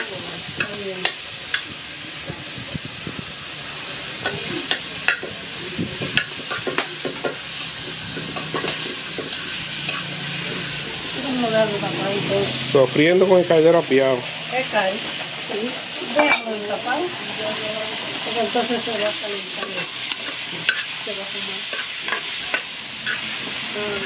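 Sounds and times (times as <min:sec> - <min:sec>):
seasoning sizzling in hot oil: 0:00.0 - 0:24.0.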